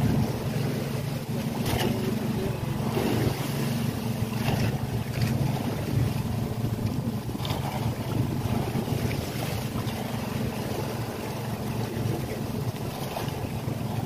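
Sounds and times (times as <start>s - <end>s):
boat engine humming: 0.0s - 14.0s
sea noise: 0.0s - 14.0s
waves slapping hull: 0.0s - 14.0s
wind: 0.0s - 14.0s.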